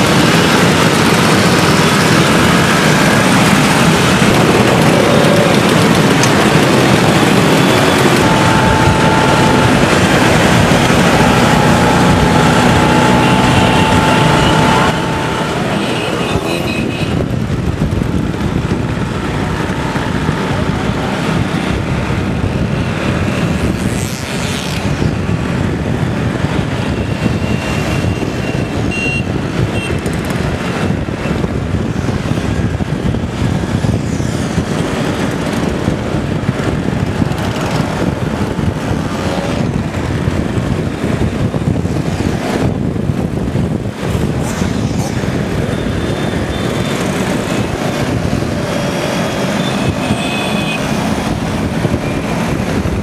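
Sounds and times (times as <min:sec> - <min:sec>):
scooter engines revving: 0:00.0 - 0:53.0.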